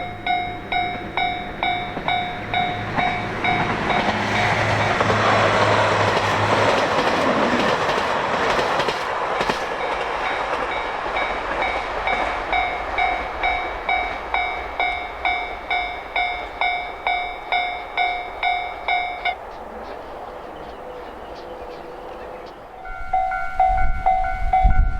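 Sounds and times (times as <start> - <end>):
level-crossing warning bell: 0.0 - 5.7, 9.8 - 22.0, 22.8 - 24.9
train passing over rails: 0.0 - 24.9.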